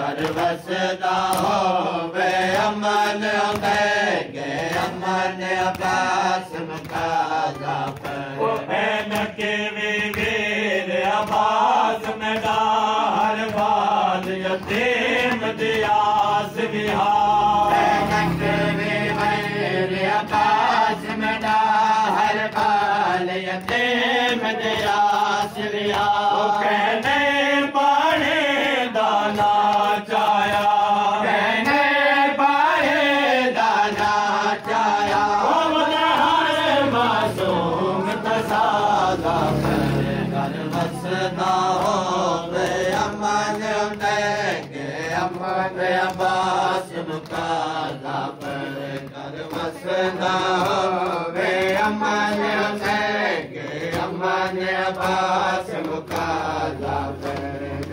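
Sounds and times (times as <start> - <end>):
men chanting in unison: 0.0 - 57.9
sharp beats keeping time: 0.0 - 57.9.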